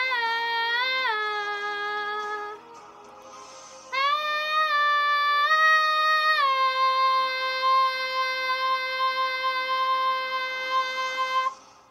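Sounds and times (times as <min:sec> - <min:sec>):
girl singing a long note: 0:00.0 - 0:02.6, 0:03.9 - 0:11.6.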